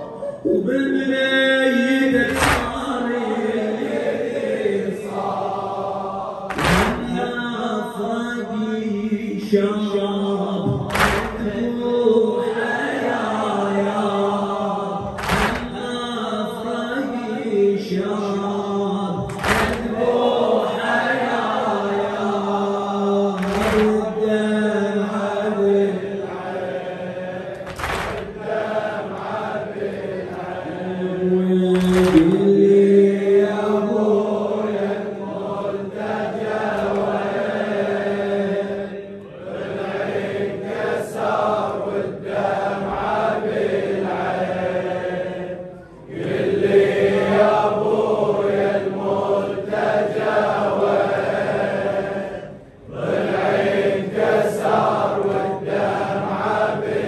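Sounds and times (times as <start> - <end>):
men chanting: 0.0 - 57.0.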